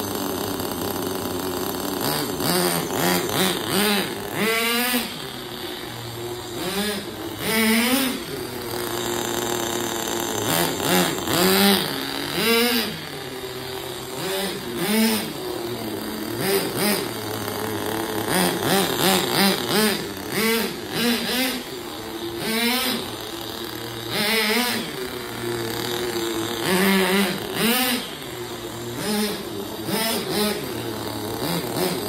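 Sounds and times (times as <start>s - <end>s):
rc car engine revving: 0.0s - 32.0s.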